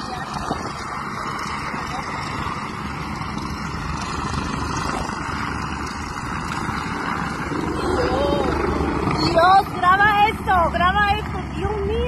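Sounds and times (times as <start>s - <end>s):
helicopter rotor overhead: 0.0s - 12.0s
rushing wind: 0.0s - 12.0s
vehicle engine noise: 0.0s - 12.0s.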